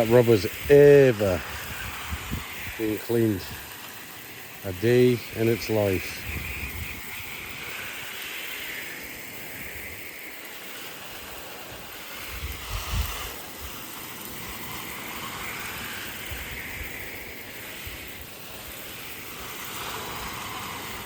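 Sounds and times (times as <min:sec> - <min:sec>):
sprayer hissing: 0:00.0 - 0:21.0.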